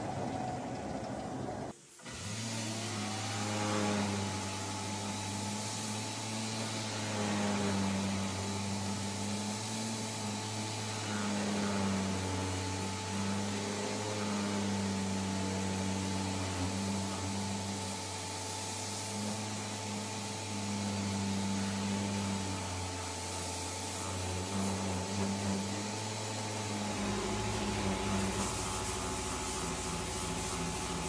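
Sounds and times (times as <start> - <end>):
orbital sander motor whine: 0.0 - 31.0
sanding hiss on wood: 1.7 - 31.0.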